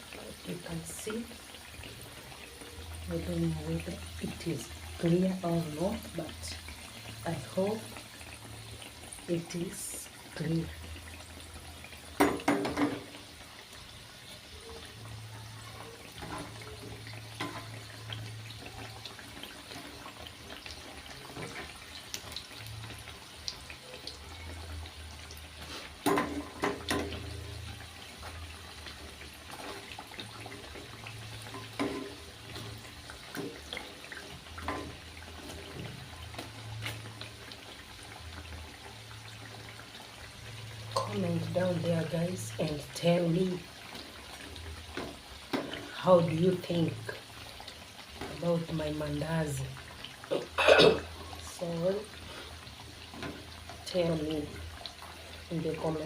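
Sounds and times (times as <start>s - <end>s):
dough sizzling in hot oil: 0.0s - 56.0s.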